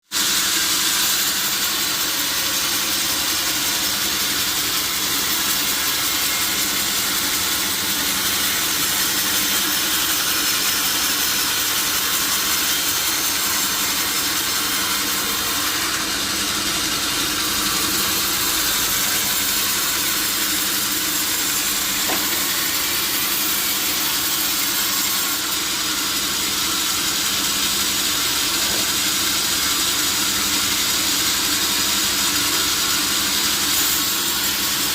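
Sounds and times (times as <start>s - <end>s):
power saw cutting wood: 0.0s - 34.9s.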